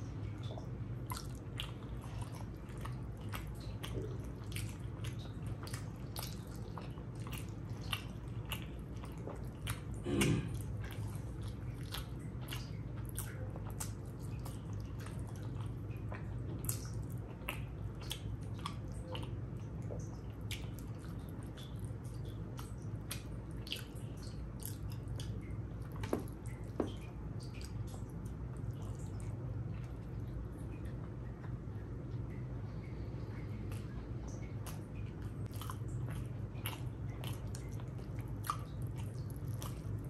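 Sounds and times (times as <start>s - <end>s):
low steady hum: 0.0s - 40.0s
wet chewing and lip-smacking: 0.1s - 40.0s.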